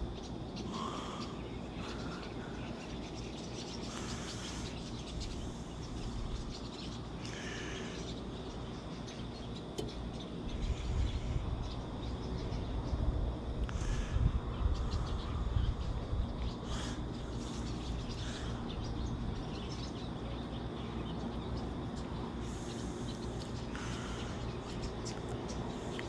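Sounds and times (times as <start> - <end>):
bird calls: 0.0 - 26.0.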